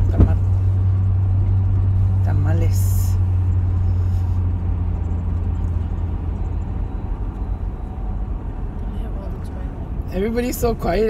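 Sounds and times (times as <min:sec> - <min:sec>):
car interior engine and road hum: 0:00.0 - 0:11.0.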